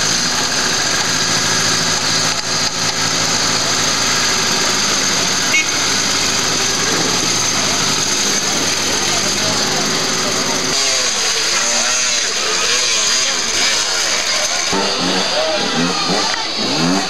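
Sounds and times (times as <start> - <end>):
indistinct voices: 0.0 - 17.0
vehicle engine running: 0.0 - 17.0.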